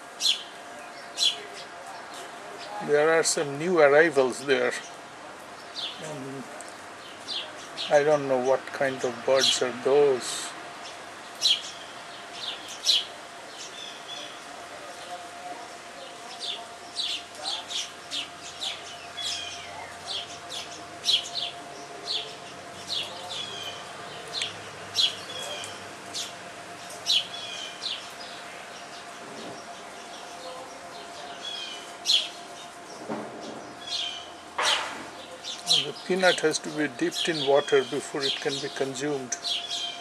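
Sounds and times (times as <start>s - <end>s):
faint steady hum: 0.0s - 40.0s
small birds chirping: 0.1s - 40.0s.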